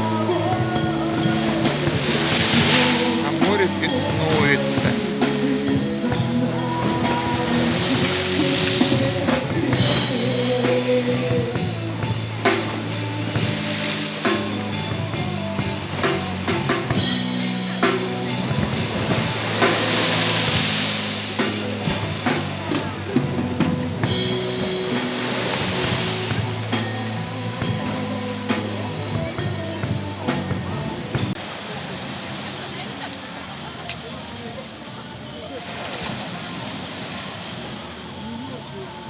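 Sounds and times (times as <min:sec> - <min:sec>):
music with drum beat and bass: 0:00.0 - 0:31.4
surf breaking: 0:00.0 - 0:34.8.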